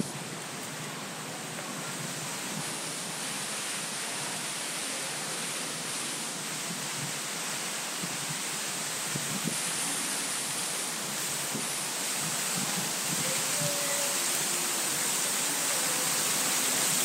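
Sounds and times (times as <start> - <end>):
fountain jets spraying water: 0.0 - 17.0.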